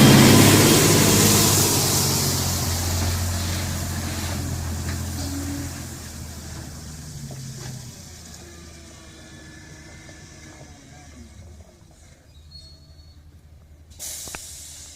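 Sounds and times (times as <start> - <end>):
diesel truck engine humming: 0.0 - 14.9.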